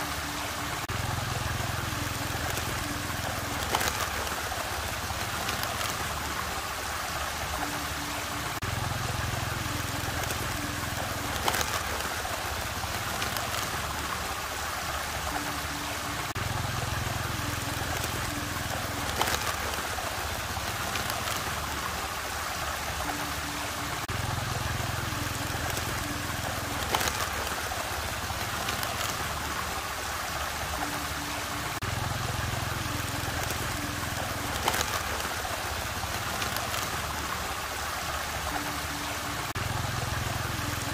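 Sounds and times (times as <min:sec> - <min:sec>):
looping background music: 0:00.0 - 0:40.9
whirlpool water rushing: 0:00.0 - 0:40.9.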